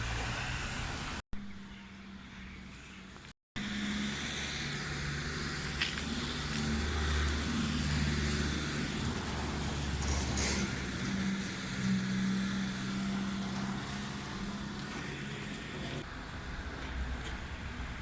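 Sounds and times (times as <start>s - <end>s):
car engine and road rumble: 0.0s - 1.2s, 2.2s - 18.0s.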